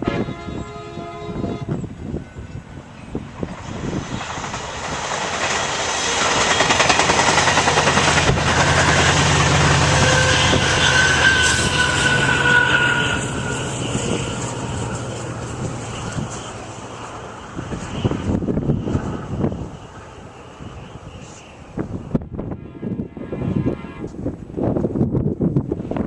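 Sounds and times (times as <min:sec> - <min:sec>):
train passing on rails: 0:00.0 - 0:26.0
steady whine: 0:01.6 - 0:24.1.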